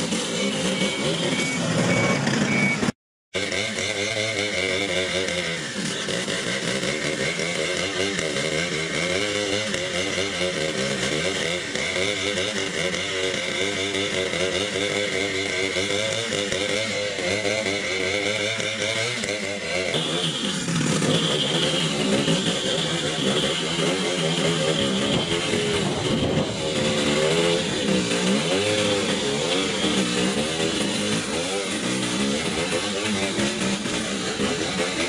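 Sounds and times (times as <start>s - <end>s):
chainsaw cutting log: 0.0s - 2.7s, 3.4s - 35.0s.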